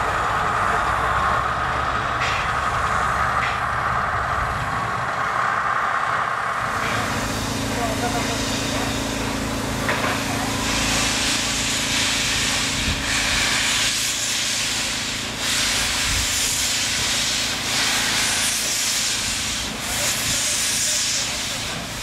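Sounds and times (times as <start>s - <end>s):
steady low hum: 0.0s - 21.1s
steam hissing from locomotive: 2.2s - 22.0s.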